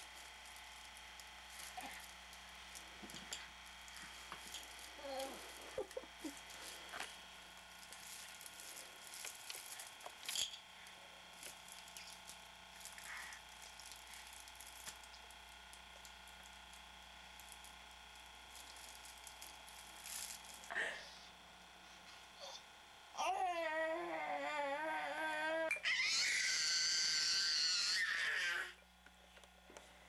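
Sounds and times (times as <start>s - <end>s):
camcorder hiss and hum: 0.0s - 30.0s.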